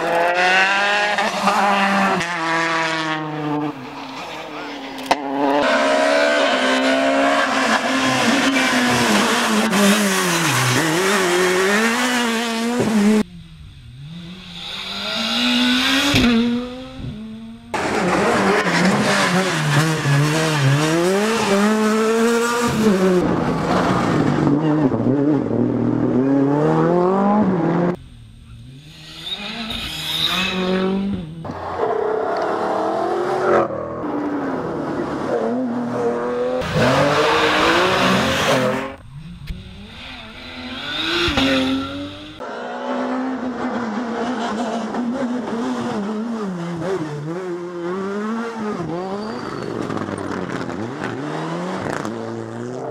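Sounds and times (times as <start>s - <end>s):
distant car: 0.0s - 52.9s
rally car engines revving: 0.0s - 52.9s.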